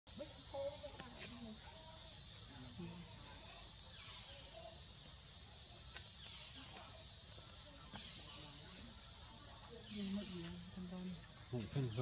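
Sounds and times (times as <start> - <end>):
high-pitched hiss: 0.1 - 12.0.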